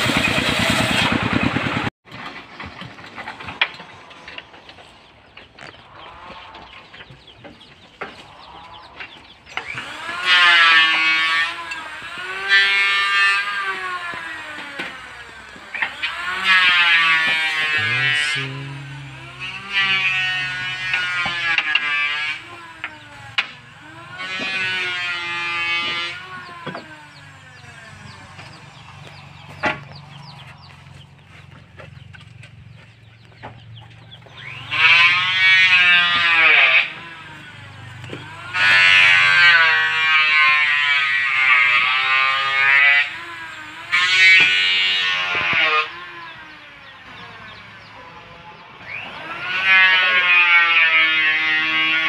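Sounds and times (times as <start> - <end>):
circular saw blade whining: 0.0 - 32.2, 33.1 - 52.0
low engine drone: 3.8 - 49.5.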